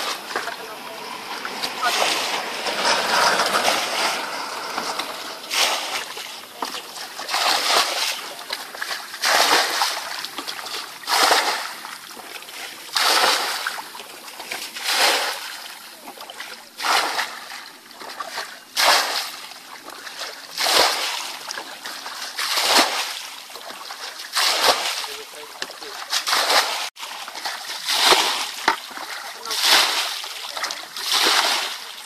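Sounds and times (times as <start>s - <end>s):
water splashing from buckets: 0.0s - 32.0s.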